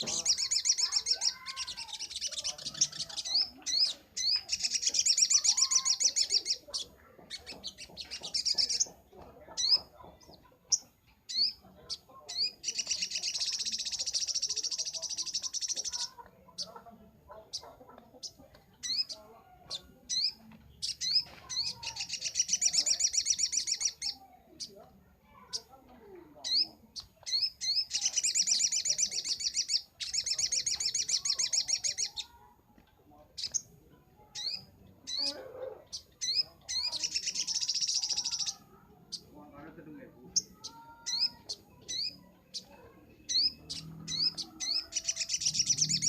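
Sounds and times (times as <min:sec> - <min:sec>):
bird chirping and trilling: 0:00.0 - 0:32.5, 0:33.4 - 0:46.0.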